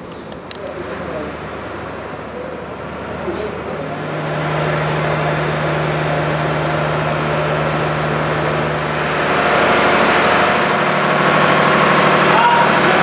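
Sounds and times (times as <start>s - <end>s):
machinery hum: 0.0s - 13.0s
rushing noise: 0.0s - 13.0s.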